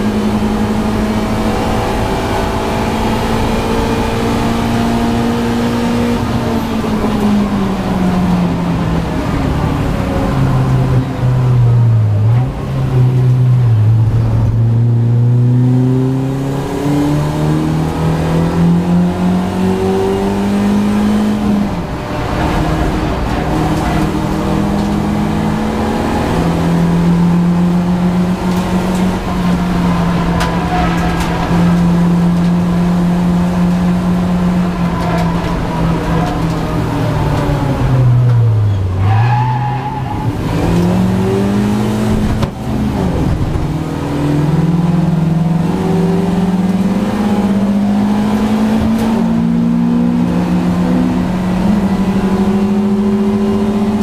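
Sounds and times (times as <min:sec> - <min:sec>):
gear changes: 0:00.0 - 0:54.0
race car engine revving: 0:00.0 - 0:54.0.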